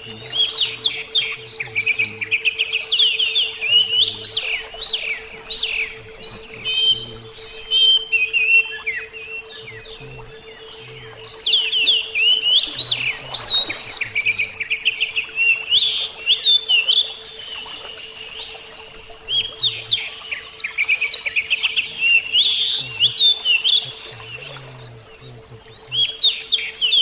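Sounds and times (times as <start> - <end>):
bird singing chirps and whistles: 0.0 - 27.0
faint steady hum: 0.0 - 27.0.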